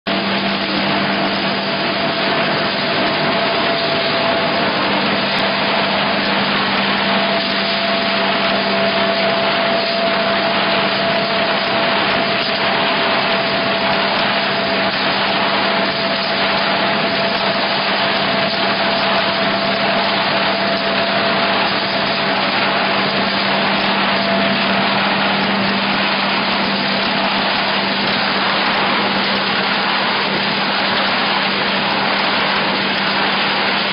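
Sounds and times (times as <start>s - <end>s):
die-cutting machine whirring: 0.1s - 33.9s.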